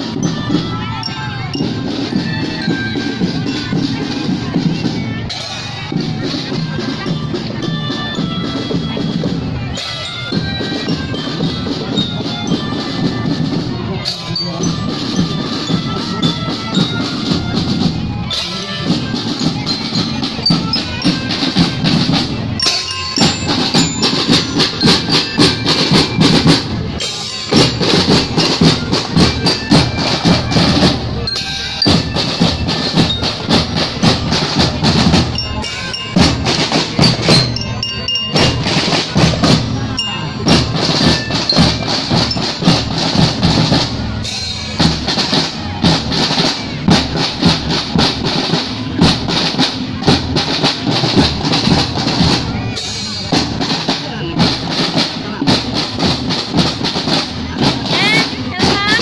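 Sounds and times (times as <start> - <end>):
glockenspiel: 0.0 - 59.0
melodicas: 0.0 - 59.0
snare drums beating: 0.0 - 59.0.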